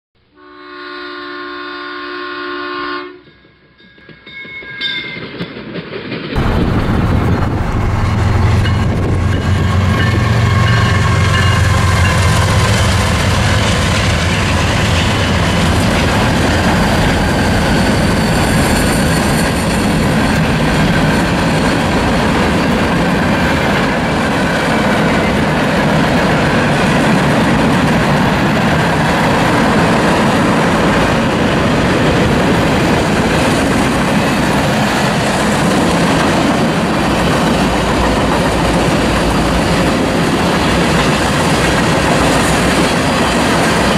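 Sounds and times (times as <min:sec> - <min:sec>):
freight cars rolling over rails: 0:05.2 - 0:43.9
locomotive engines rumbling: 0:06.2 - 0:43.9.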